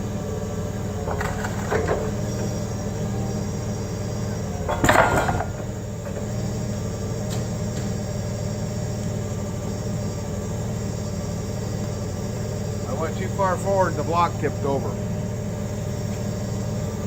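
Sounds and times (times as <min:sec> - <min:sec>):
forklift engine running: 0:00.0 - 0:17.0.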